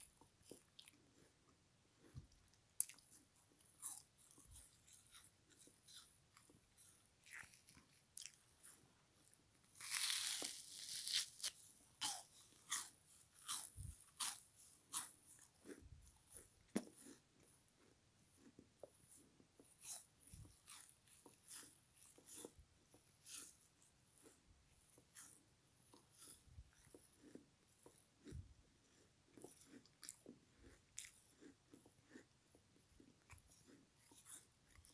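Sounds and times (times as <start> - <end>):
crunchy chewing: 0.0 - 34.9.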